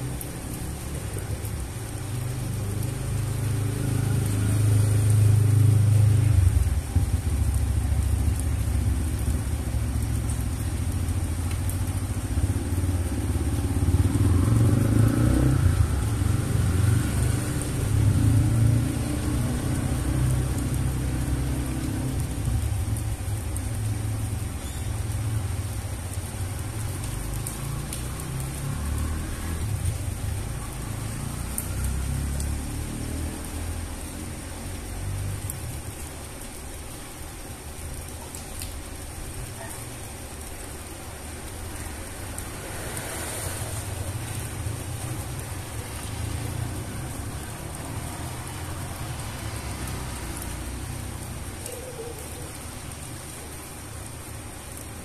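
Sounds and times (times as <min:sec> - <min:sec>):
rain on wet pavement: 0:00.0 - 0:55.0
vehicle engine rumble: 0:00.0 - 0:55.0.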